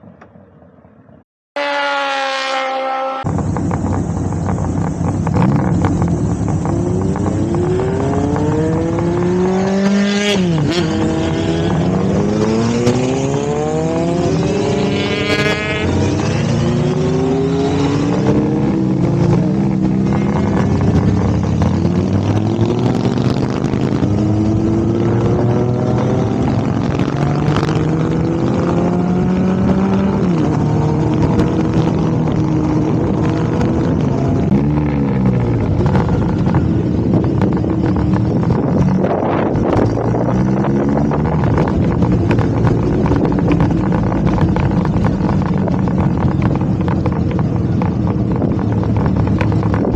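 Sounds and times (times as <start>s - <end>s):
motorcycle engine accelerating through gears: 2.7s - 49.9s
wind noise: 3.2s - 49.9s.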